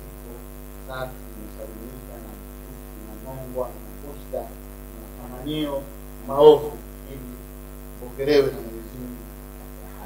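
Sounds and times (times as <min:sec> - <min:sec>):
electrical mains hum: 0:00.0 - 0:10.0
man speaking: 0:00.0 - 0:10.0.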